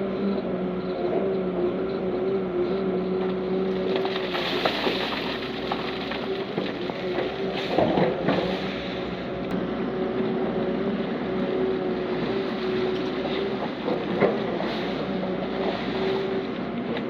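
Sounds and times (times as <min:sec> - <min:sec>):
heavy diesel machinery running: 0:00.0 - 0:17.0.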